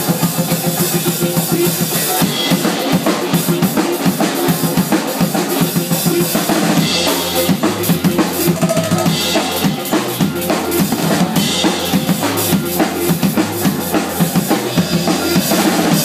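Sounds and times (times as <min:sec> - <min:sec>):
cymbals washing: 0:00.0 - 0:16.0
drum kit played fast: 0:00.0 - 0:16.0.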